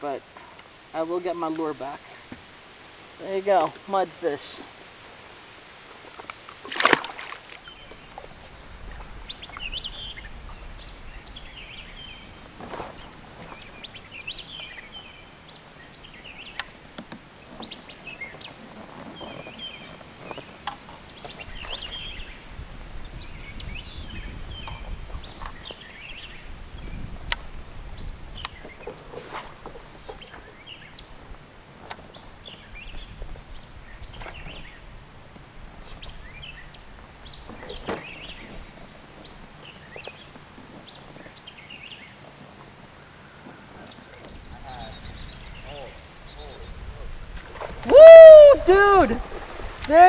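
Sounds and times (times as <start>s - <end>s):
birds chirping: 0.0s - 50.0s
water sloshing around kayak: 4.6s - 47.9s, 48.6s - 50.0s
low wind rumble: 7.1s - 50.0s.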